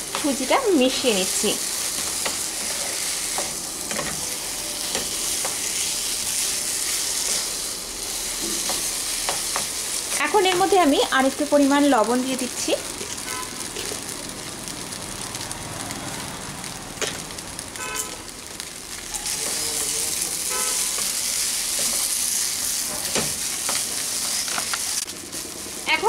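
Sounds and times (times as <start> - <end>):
sizzling: 0.0 - 26.0.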